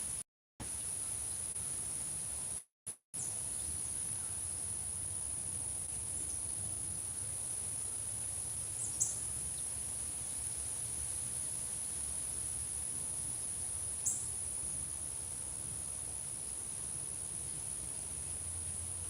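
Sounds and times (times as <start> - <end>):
insect chorus: 0.0 - 2.6, 3.2 - 19.0.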